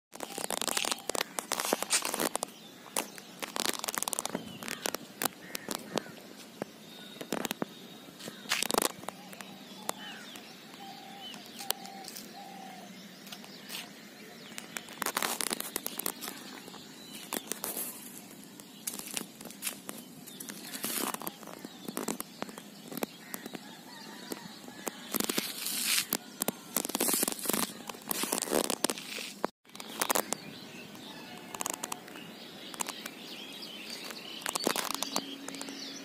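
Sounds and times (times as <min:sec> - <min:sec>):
clicks and rustles near microphone: 0:00.2 - 0:12.4, 0:13.2 - 0:35.9
bird chirps: 0:00.2 - 0:36.0.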